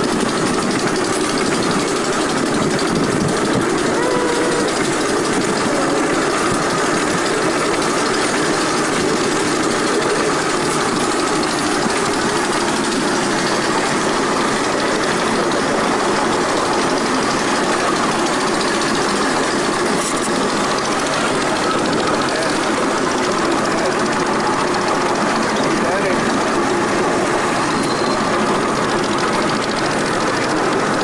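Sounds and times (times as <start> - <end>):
miniature train running on track: 0.0 - 31.0.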